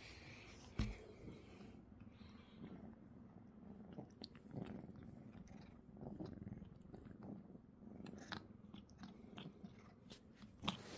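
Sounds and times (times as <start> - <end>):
cat purring: 1.0 - 10.9.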